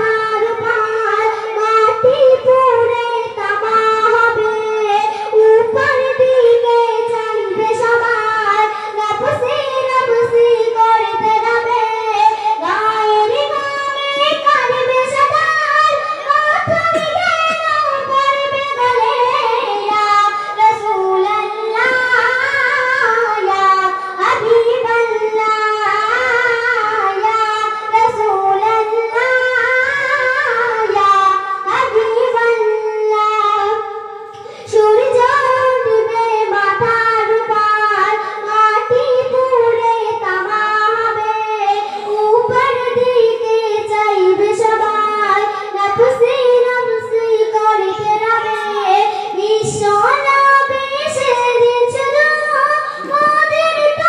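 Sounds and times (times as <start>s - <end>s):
girl singing unaccompanied: 0.0s - 54.0s.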